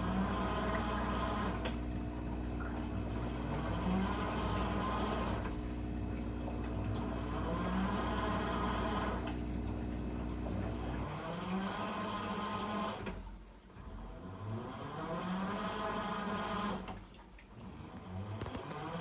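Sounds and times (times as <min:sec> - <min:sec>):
washing machine motor strokes: 0:00.0 - 0:19.0
water churning: 0:00.0 - 0:19.0.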